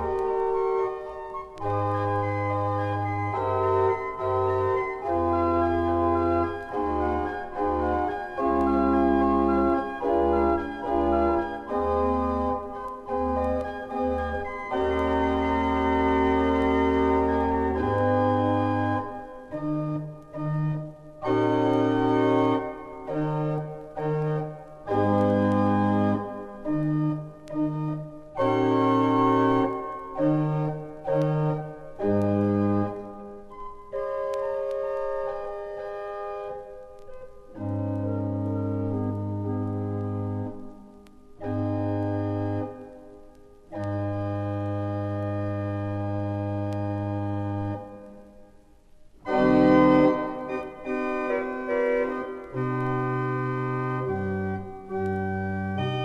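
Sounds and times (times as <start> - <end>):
deep organ pedal notes: 0.0 - 48.4, 49.2 - 56.0
pipe organ chords: 0.0 - 48.5, 49.2 - 56.0.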